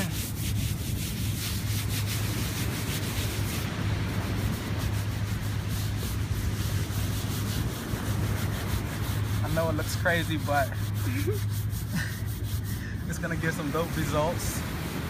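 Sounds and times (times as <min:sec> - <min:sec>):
sand scrubbing against denim: 0:00.0 - 0:15.0
steady low hum: 0:00.0 - 0:15.0.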